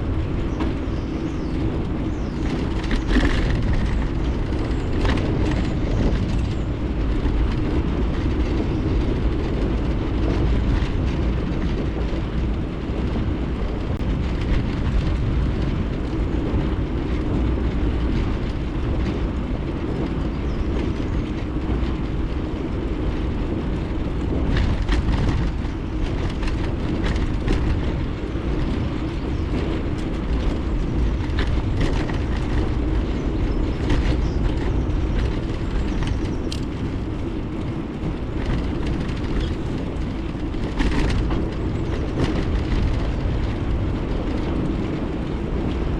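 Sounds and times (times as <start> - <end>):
bicycle tyres rolling: 0.0 - 45.9
wind on microphone: 0.0 - 45.9.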